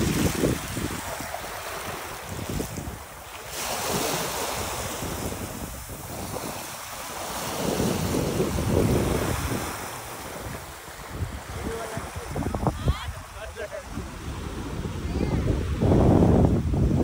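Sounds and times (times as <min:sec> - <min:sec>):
small waves lapping on sand: 0:00.0 - 0:17.0
wind buffeting microphone: 0:00.0 - 0:17.0.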